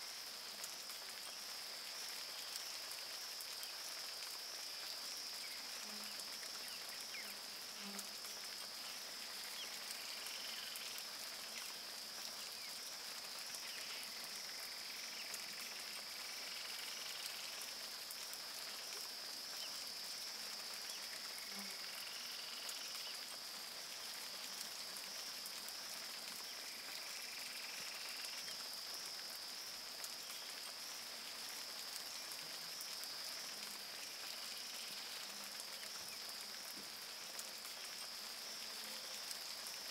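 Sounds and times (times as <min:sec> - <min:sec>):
rain falling on a river: 0:00.0 - 0:39.9.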